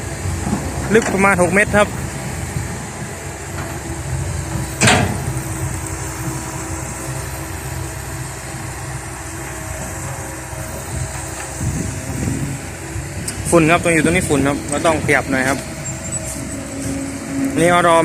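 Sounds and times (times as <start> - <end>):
heavy diesel machinery rumbling: 0.0 - 18.0.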